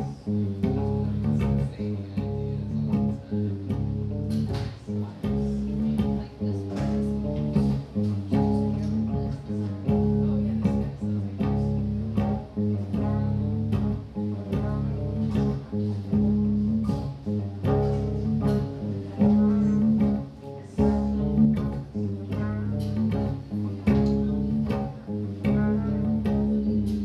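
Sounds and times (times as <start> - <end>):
electric guitar repeated notes: 0.0 - 27.0
plucked electric bass notes: 0.0 - 27.0.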